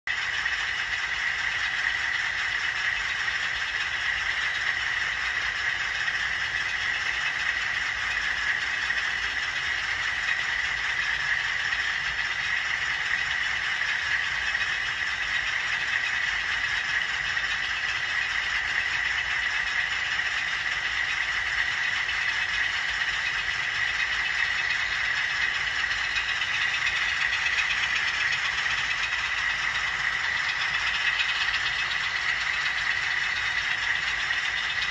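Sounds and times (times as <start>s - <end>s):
model train running: 0.1s - 34.9s.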